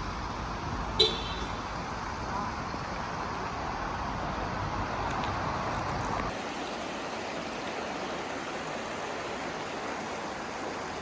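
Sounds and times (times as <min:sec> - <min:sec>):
rushing noise outdoors: 0:00.0 - 0:11.0.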